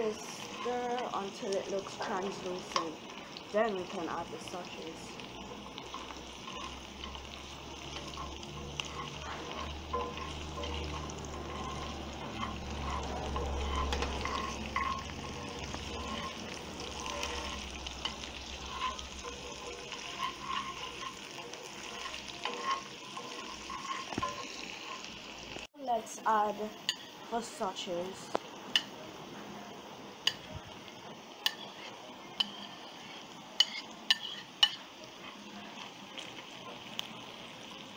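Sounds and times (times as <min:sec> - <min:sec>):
spatula scraping and stirring: 0:00.0 - 0:25.7, 0:31.4 - 0:37.2
vegetables sizzling in a frying pan: 0:00.0 - 0:37.9.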